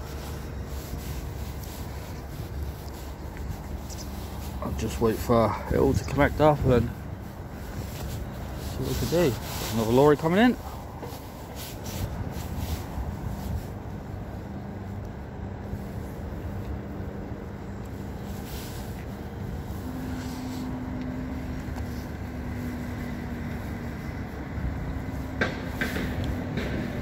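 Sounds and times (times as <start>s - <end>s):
lorry engine humming: 0.0s - 27.0s.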